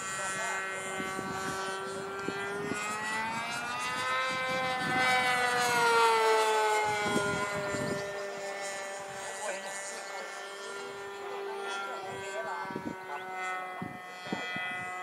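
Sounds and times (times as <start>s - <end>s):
model airplane buzzing overhead: 0.0s - 15.0s.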